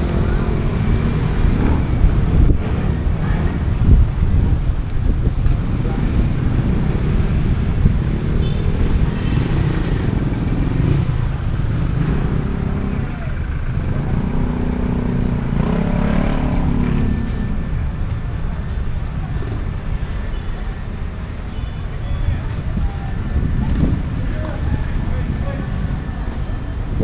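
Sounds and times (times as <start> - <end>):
motorcycles and cars passing: 0.0 - 27.0.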